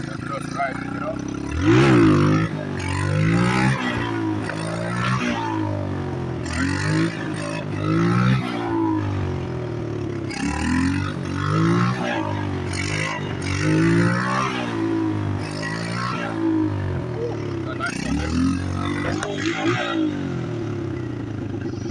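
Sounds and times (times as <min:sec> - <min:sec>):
motorbike engine revving: 0:00.0 - 0:21.9.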